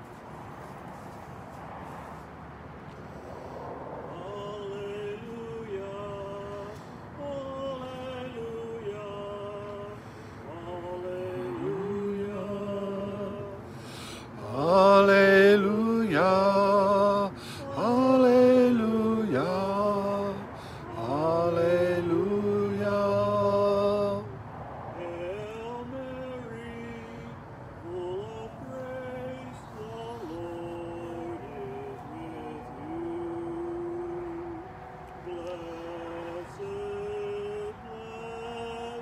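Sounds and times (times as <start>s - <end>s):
voices singing a slow hymn: 3.0s - 39.0s.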